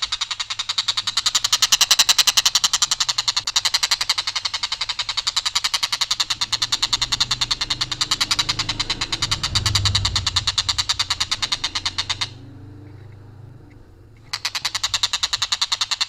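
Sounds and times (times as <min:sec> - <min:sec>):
kingfisher rattling call: 0:00.0 - 0:16.0.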